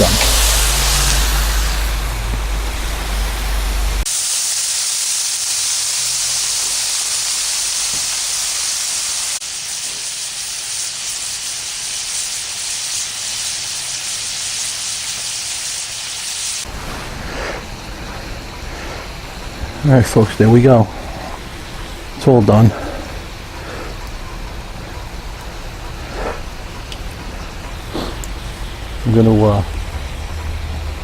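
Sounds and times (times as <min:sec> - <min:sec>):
food sizzling on a griddle: 0:00.0 - 0:30.8.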